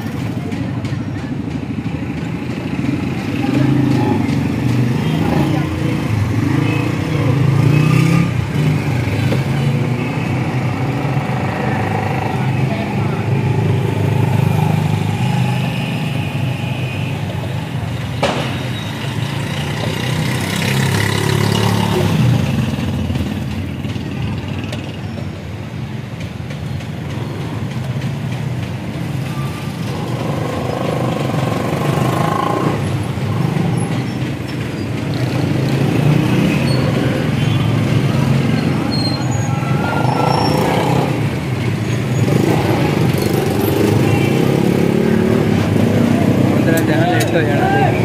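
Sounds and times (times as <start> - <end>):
street traffic noise: 0.0 - 48.0.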